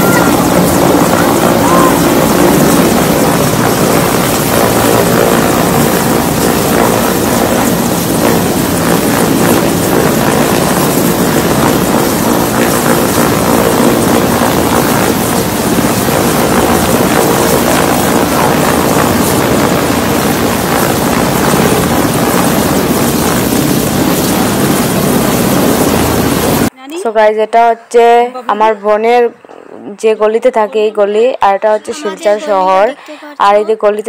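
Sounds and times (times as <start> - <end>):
helicopter hovering: 0.0 - 26.7, 27.3 - 34.0.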